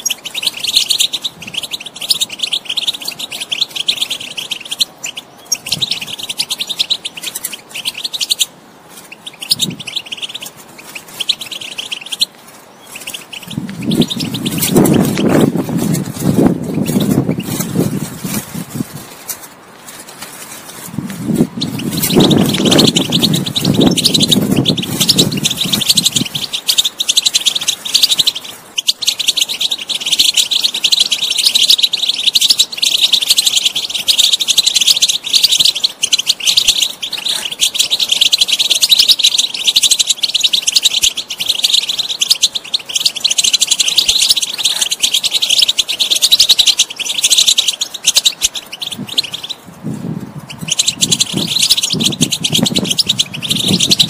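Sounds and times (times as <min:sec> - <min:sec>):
goldfinch twittering song: 0:00.0 - 0:19.0, 0:21.1 - 0:49.7, 0:50.4 - 0:54.0.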